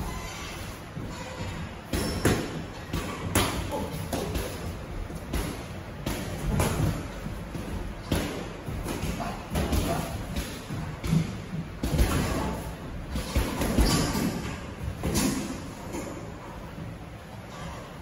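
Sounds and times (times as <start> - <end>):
gym hall hum: 0.0 - 18.0.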